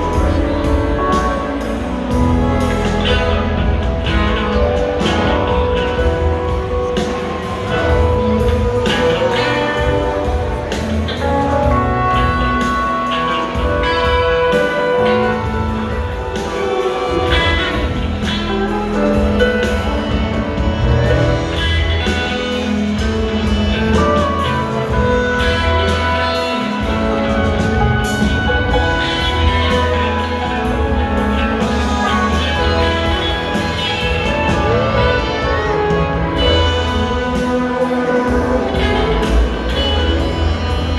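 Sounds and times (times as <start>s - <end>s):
bass guitar: 0.0s - 40.9s
drums: 0.0s - 40.9s
electric guitars: 0.0s - 40.9s.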